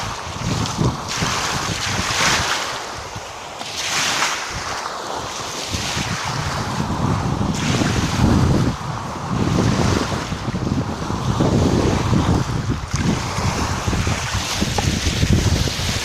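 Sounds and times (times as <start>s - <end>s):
waves washing in: 0.0s - 16.0s
wind buffeting microphone: 0.0s - 16.0s.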